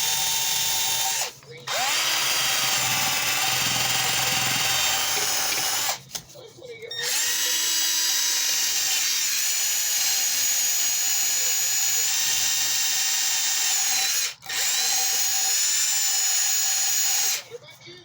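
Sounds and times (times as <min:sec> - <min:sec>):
electric drill scouring metal: 0:00.0 - 0:06.0, 0:07.0 - 0:17.5.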